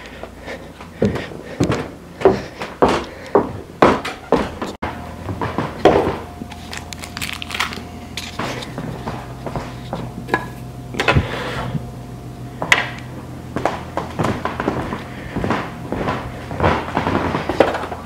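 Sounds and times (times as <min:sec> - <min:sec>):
footsteps: 0:00.0 - 0:11.9, 0:12.6 - 0:18.0
faint steady hum: 0:00.0 - 0:18.0.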